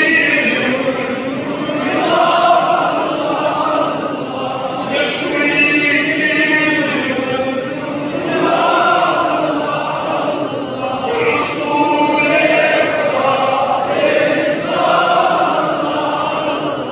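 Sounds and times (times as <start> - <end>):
men chanting in unison: 0.0 - 16.9.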